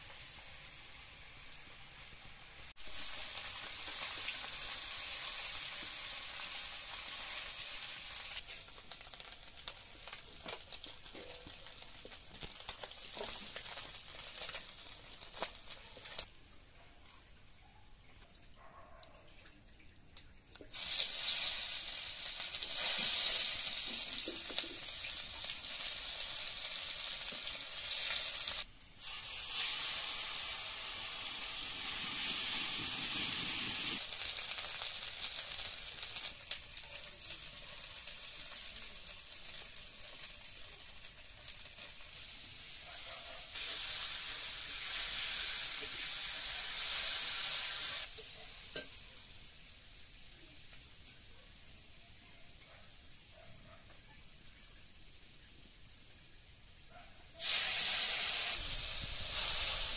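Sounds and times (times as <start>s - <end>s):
frying in hot oil sizzling: 0.0s - 16.7s, 20.6s - 59.9s.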